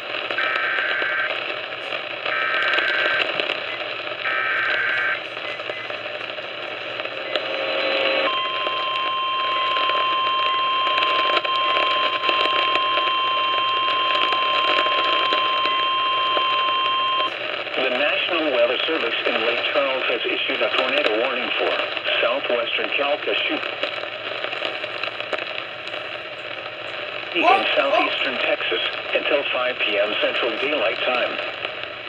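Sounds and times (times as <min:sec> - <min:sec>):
radio static: 0:00.0 - 0:32.0.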